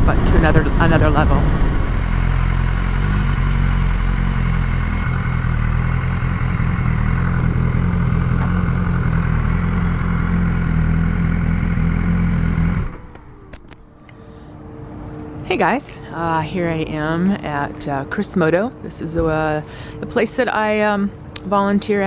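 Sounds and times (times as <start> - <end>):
motorcycle engine cruising: 0.0 - 20.3
wind and road noise: 0.0 - 22.0.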